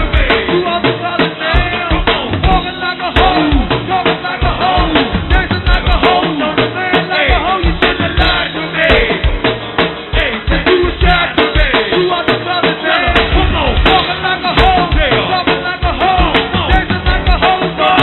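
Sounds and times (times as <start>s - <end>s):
drums and percussion beat: 0.0s - 18.0s
muffled live band music: 0.0s - 18.0s.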